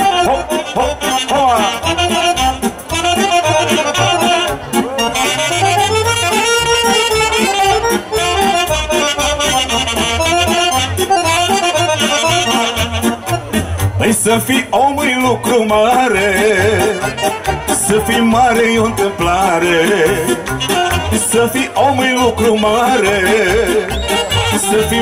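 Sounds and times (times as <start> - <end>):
saxophone melody: 0.0 - 14.3, 15.9 - 25.0
accordion melody: 0.0 - 25.0
drum-kit beat: 0.0 - 25.0.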